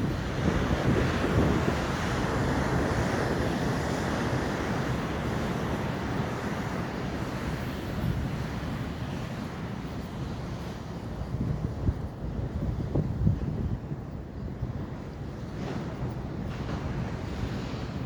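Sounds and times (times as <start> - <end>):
wave breaking and washing in: 0.0 - 12.0, 15.3 - 18.0
wind buffeting microphone: 0.0 - 18.0.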